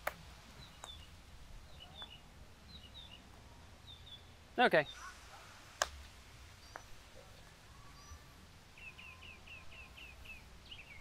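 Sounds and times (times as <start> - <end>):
bird chirping: 0.5 - 11.0.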